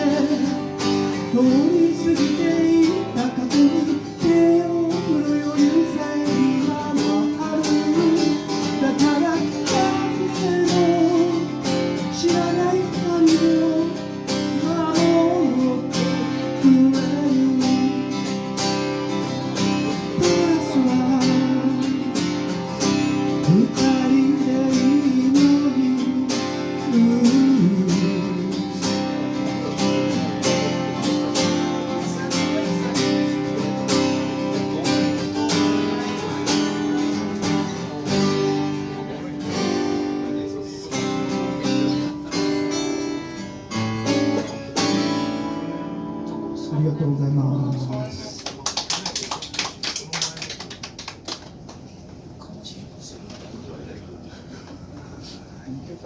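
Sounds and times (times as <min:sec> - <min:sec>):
acoustic guitar strumming: 0:00.0 - 0:48.4.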